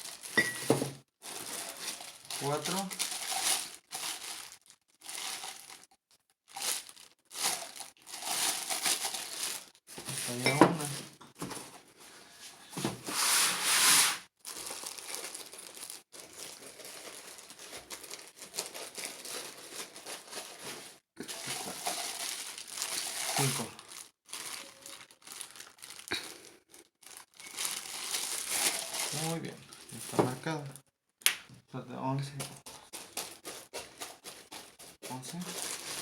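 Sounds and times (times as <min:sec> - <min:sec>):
packing material crinkling: 0:00.0 - 0:11.7, 0:13.1 - 0:30.6, 0:32.4 - 0:36.0.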